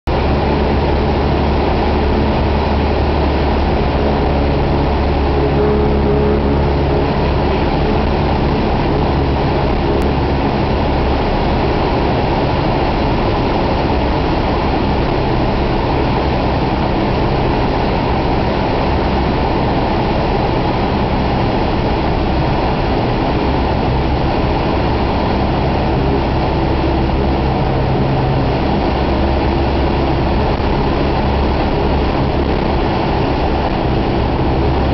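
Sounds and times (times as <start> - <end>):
propeller aircraft engine drone: 0.0 - 34.9.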